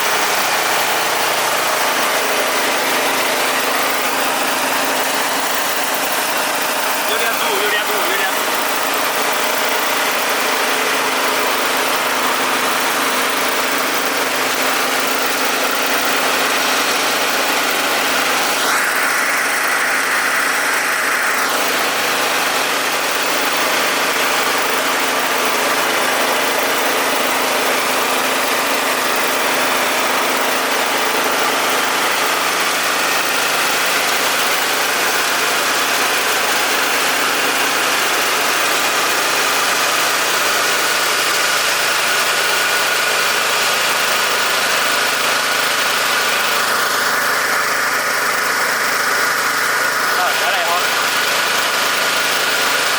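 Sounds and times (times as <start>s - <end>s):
rice milling machine whirring: 0.0s - 52.9s.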